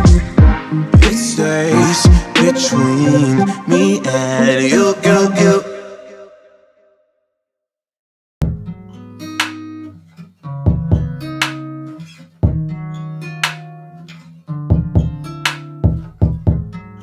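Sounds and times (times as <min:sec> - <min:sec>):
plucked guitar and bass music: 0:00.0 - 0:05.2, 0:08.4 - 0:17.0.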